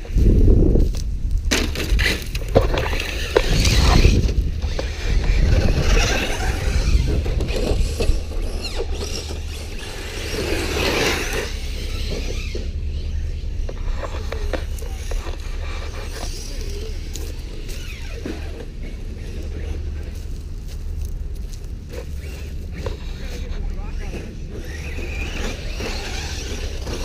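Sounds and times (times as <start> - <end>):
clicks of grit and stones: 0.0 - 12.9, 13.6 - 27.0
toy truck tyres scrabbling on dirt: 0.0 - 27.0
wind buffeting microphone: 0.0 - 27.0.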